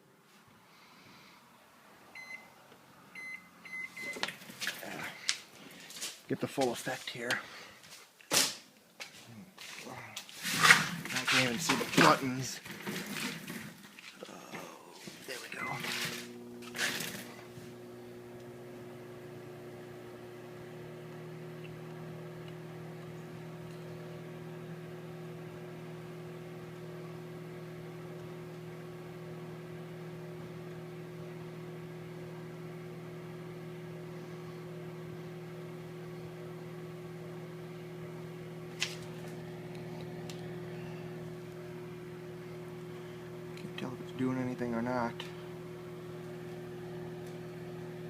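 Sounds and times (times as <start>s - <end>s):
microwave oven humming: 2.1s - 5.3s, 10.9s - 48.0s.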